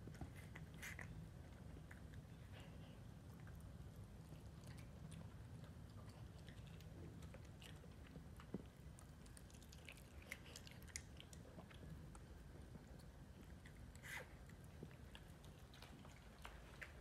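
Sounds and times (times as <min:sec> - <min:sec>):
dog chewing meat: 0:00.0 - 0:17.0.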